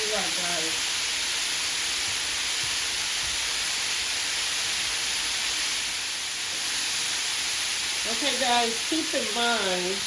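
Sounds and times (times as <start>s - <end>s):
chicken deep-frying sizzle: 0.0s - 10.0s.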